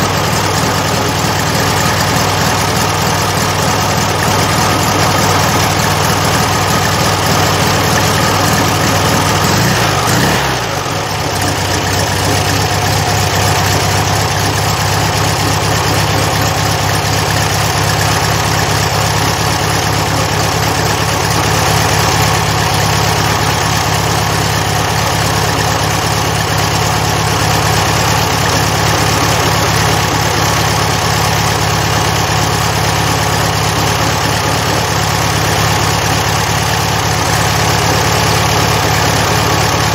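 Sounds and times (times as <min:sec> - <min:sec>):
air-cooled engine idling: 0:00.0 - 0:39.9.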